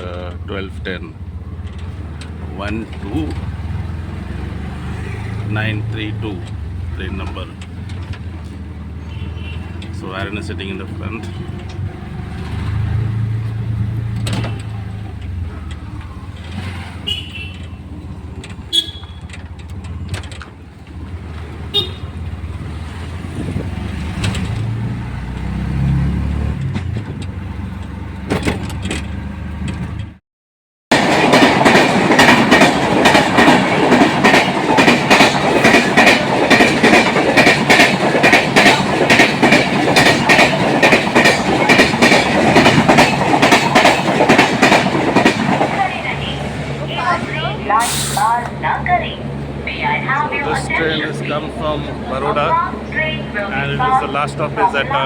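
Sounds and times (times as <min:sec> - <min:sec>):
road vehicle rumble: 0:00.0 - 0:30.2, 0:30.9 - 0:55.0
train wheels clattering over rails: 0:00.0 - 0:30.2, 0:30.9 - 0:55.0.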